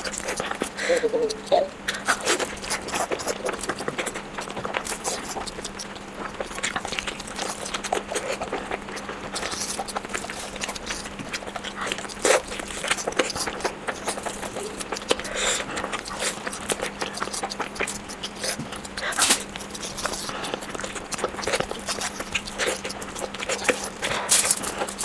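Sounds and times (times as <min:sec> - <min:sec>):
chewing with lip smacks: 0:00.0 - 0:25.0.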